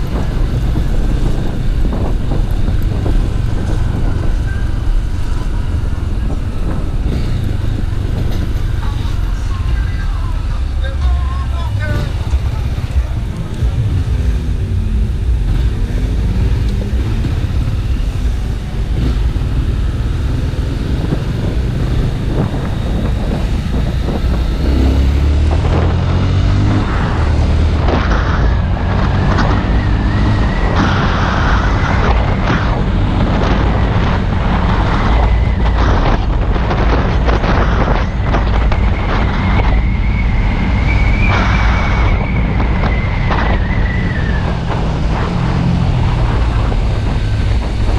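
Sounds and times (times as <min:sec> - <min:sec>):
motorcycle engine running: 0:00.0 - 0:39.8
wind buffeting microphone: 0:00.0 - 0:47.9.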